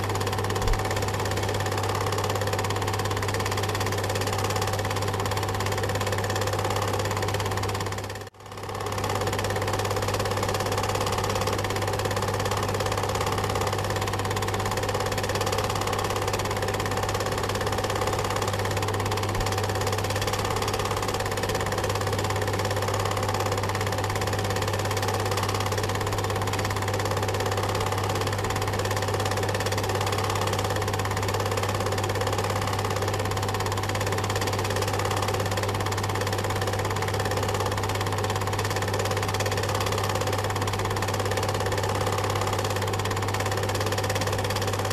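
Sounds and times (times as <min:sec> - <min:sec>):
film projector running: 0:00.0 - 0:44.9.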